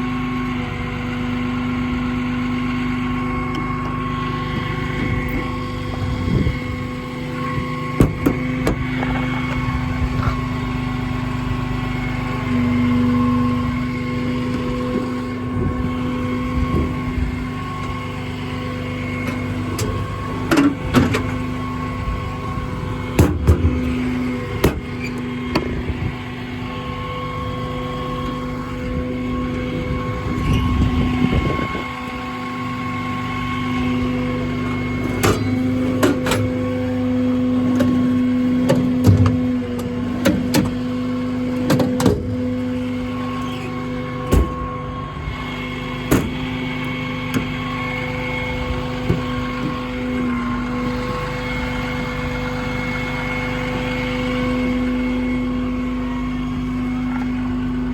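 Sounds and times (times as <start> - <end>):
hydraulic system whine: 0.0 - 57.9.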